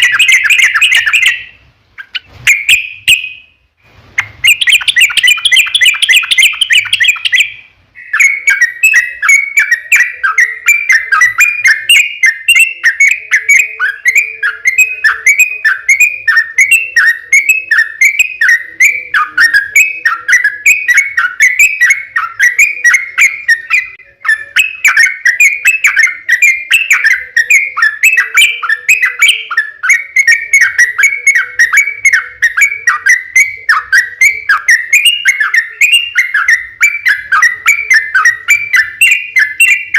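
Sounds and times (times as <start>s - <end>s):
bulbul singing: 0.0s - 3.6s, 4.2s - 39.9s.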